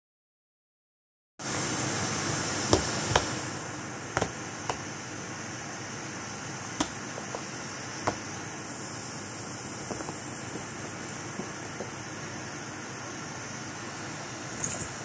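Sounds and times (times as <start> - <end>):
steady hiss: 1.4 - 15.0.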